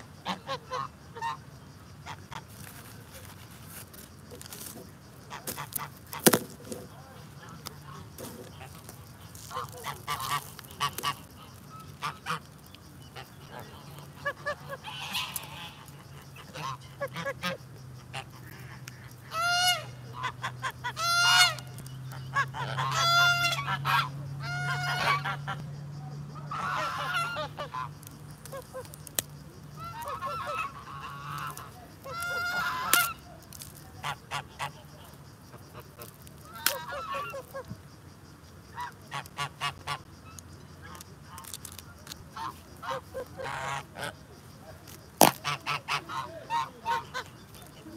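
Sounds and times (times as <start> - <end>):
geese honking: 0.0 - 2.8, 5.2 - 25.6, 26.3 - 37.8, 38.6 - 41.7, 42.3 - 44.2, 45.2 - 47.9.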